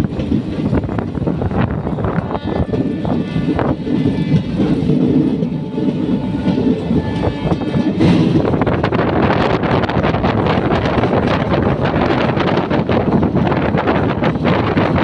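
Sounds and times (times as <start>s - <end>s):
train carriages rumbling: 0.0s - 15.0s
wind on microphone: 0.0s - 15.0s.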